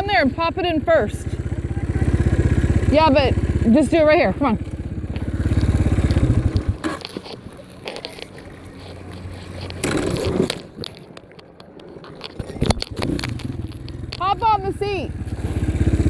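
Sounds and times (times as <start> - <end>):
bike rolling on dirt: 0.0 - 16.0
dirt bike engine: 0.0 - 16.0.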